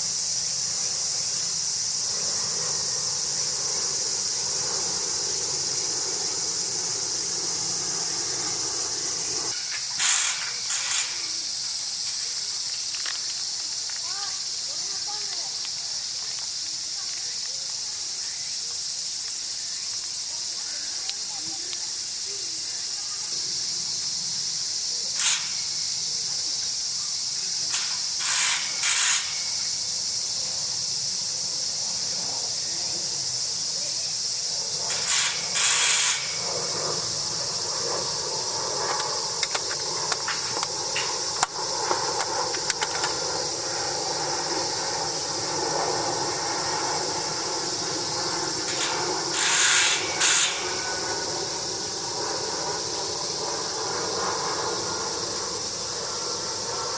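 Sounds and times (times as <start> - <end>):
insects shrilling: 0.0 - 56.9.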